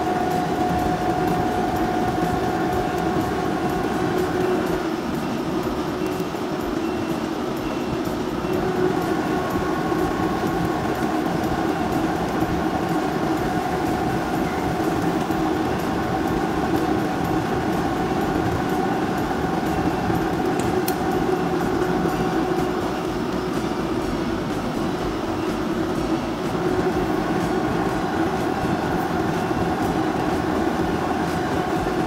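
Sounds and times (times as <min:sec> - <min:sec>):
humming tones: 0:00.0 - 0:32.0
roller mill mechanical drone: 0:00.0 - 0:32.0.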